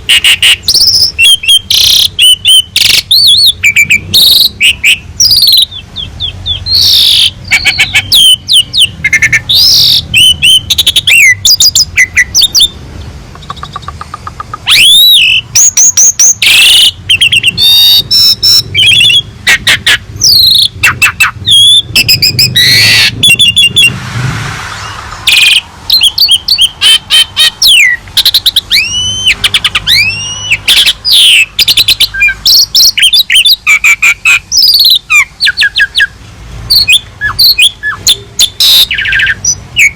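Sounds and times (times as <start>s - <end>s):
harsh rasping bird call: 0.0s - 12.8s, 13.4s - 39.9s
starling singing: 0.0s - 39.9s.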